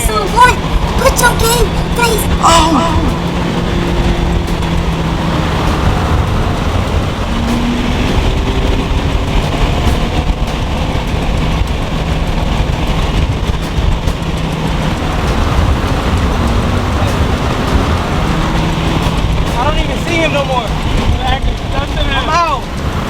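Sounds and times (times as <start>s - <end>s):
car engine at high revs: 0.0s - 23.0s
road and wind noise: 0.0s - 23.0s.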